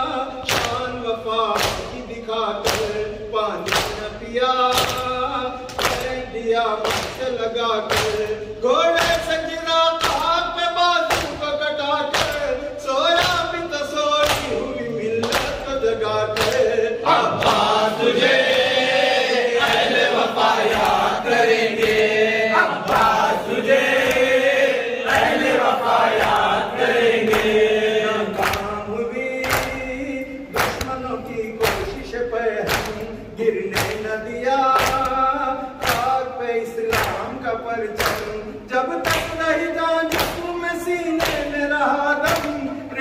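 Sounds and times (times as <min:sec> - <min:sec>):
men singing a lament: 0:00.0 - 0:43.0.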